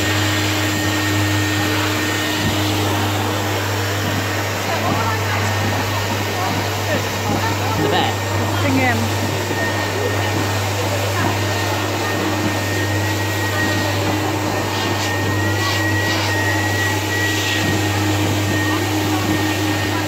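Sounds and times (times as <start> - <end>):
blower rushing air: 0.0 - 20.0.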